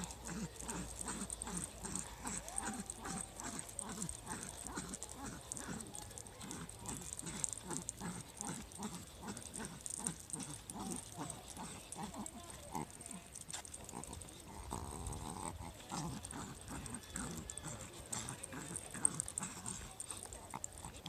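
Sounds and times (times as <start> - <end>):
small dog panting: 0.0 - 21.0.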